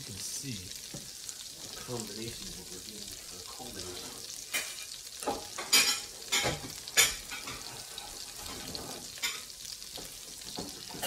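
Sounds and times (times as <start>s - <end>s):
pan drippings sizzling: 0.0s - 11.0s.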